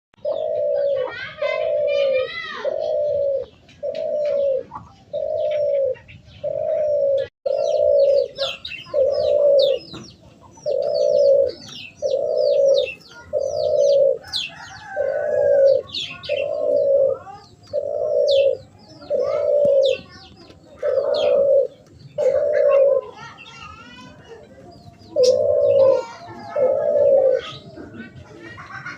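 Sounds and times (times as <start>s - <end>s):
bird hooting coo: 0.2s - 23.3s, 24.5s - 28.9s
small birds chirping: 0.2s - 28.9s.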